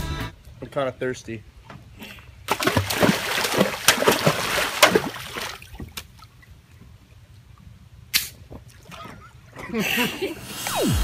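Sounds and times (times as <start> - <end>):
pool water splashing and sloshing: 1.5 - 10.6.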